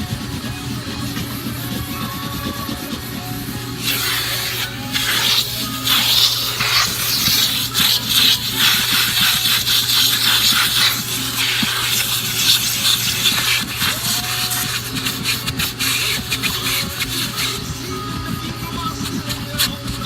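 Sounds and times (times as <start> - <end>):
nozzle scraping carpet: 0.0 - 20.0
vacuum cleaner running: 0.0 - 20.0.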